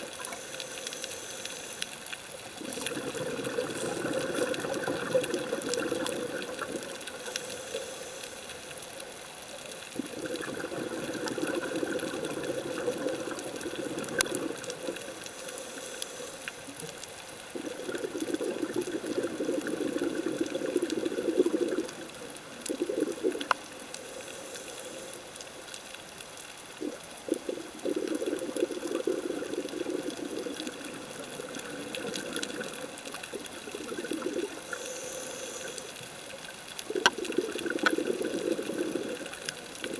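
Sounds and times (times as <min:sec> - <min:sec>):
underwater exhaled bubbles gurgling: 0:01.9 - 0:39.9.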